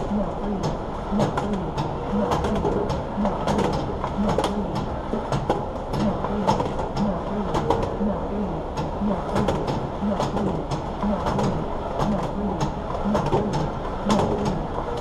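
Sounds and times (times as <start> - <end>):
low mechanical pulse: 0.0 - 15.0.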